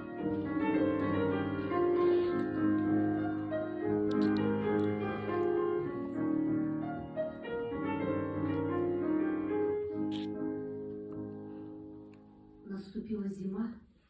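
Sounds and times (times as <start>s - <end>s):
piano playing chords: 0.0s - 12.7s.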